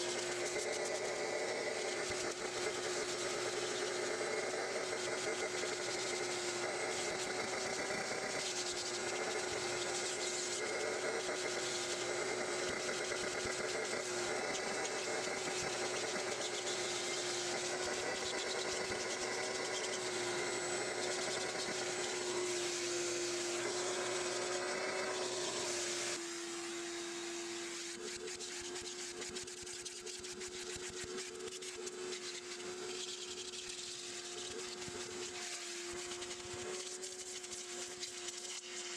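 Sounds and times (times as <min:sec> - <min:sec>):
shop vacuum running: 0:00.0 - 0:38.9
vacuum nozzle rubbing carpet: 0:00.0 - 0:38.9.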